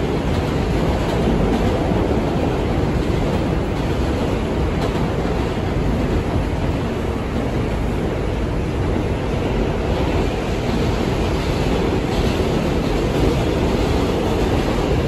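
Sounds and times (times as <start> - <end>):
subway car running on rails: 0.0 - 15.0.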